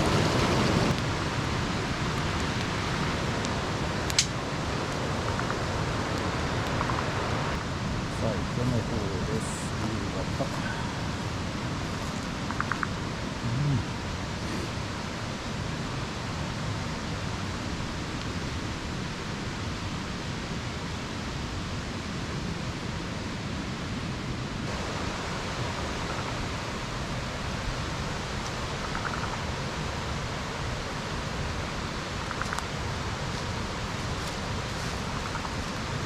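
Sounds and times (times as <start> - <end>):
steady rushing hiss: 0.0 - 36.0.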